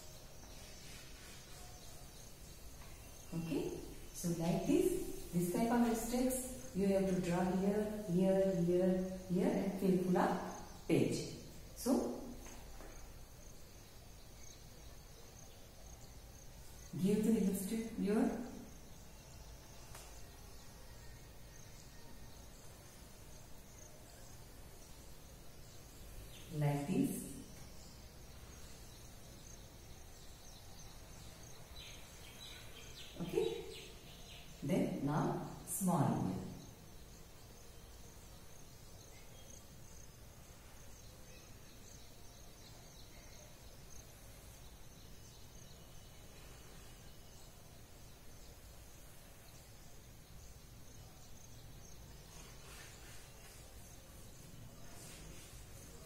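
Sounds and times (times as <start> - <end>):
faint insect chirring: 0.0 - 56.0.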